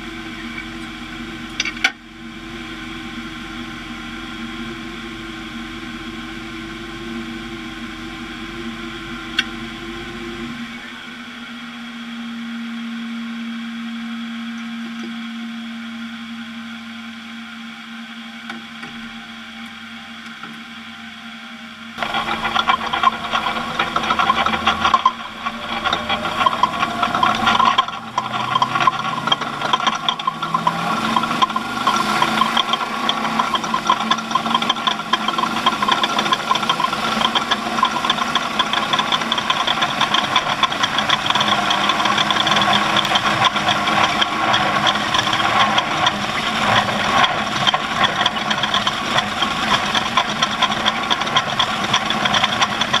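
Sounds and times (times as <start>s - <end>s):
rattling vehicle engine: 0.0s - 12.1s, 13.4s - 53.0s.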